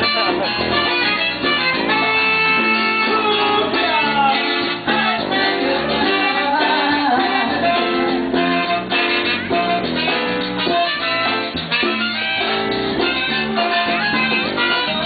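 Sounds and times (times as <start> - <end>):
latin band music with guitar: 0.0 - 15.0.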